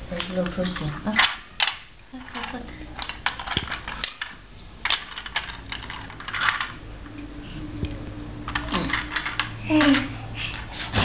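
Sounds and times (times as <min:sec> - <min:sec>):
plastic toys clicking and clattering: 0:00.1 - 0:06.8, 0:08.4 - 0:11.0.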